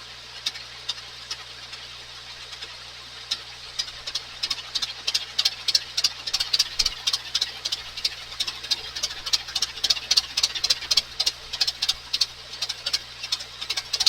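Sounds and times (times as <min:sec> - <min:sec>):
fast uneven clatter of ticks: 0:00.0 - 0:14.0.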